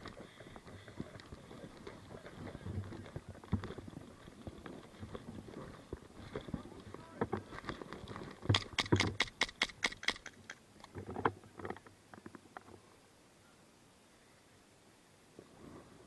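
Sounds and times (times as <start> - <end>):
rustling of movement: 0.0 - 13.2, 15.2 - 16.0.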